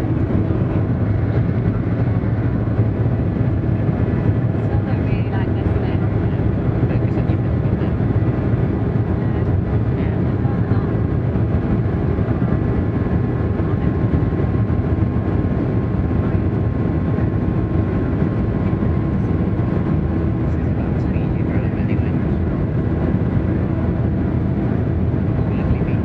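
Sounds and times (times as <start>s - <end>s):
jet engines drone in cabin: 0.0s - 26.0s.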